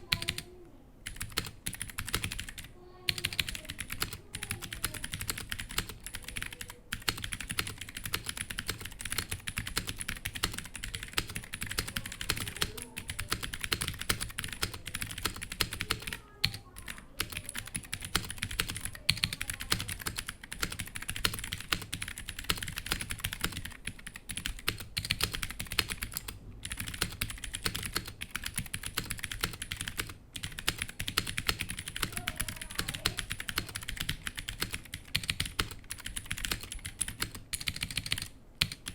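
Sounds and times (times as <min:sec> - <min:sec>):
clicky mechanical keyboard typing: 0:00.0 - 0:38.9.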